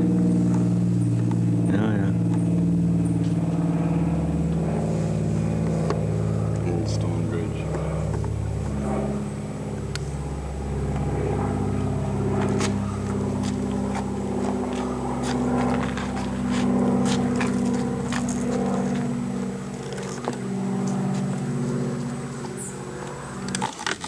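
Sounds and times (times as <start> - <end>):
motor running steadily: 0.0 - 24.0.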